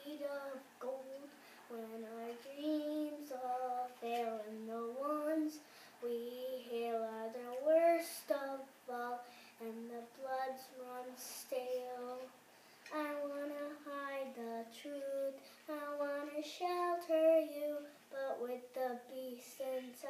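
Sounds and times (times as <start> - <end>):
boy singing unaccompanied: 0.0 - 20.0.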